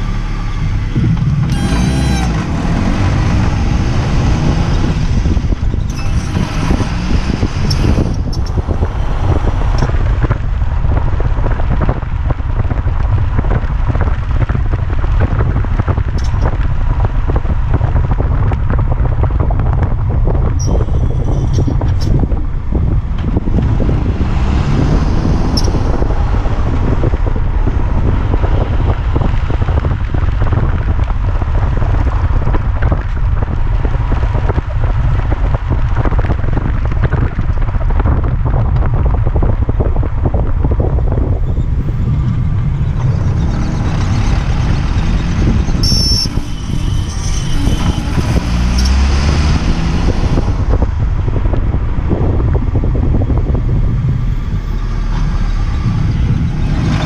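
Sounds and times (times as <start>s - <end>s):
car engine low rumble: 0.0s - 57.0s
wind buffeting microphone: 0.0s - 57.0s.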